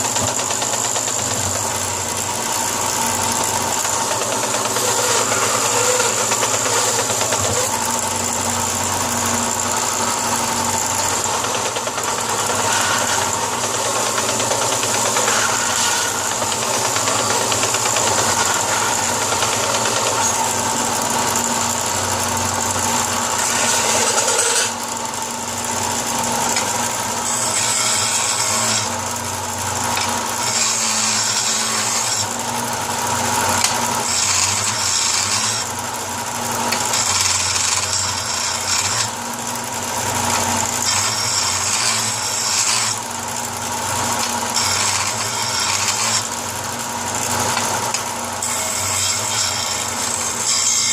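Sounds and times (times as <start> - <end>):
power tool motor running: 0.0 - 50.9.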